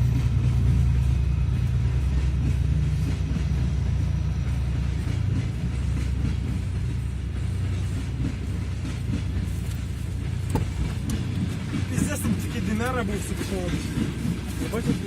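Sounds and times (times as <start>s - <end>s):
diesel locomotive engines running: 0.0s - 15.0s.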